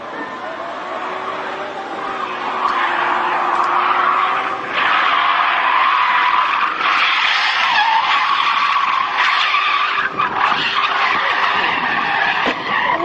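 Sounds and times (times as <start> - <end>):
car tyres screeching: 0.0 - 13.0.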